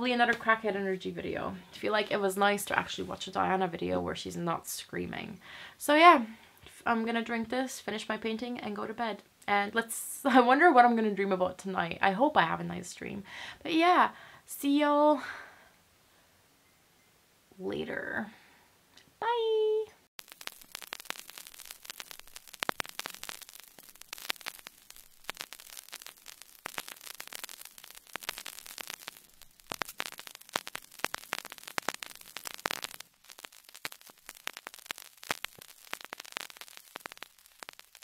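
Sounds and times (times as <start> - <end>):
crackling static: 0.0 - 15.7, 19.2 - 38.0.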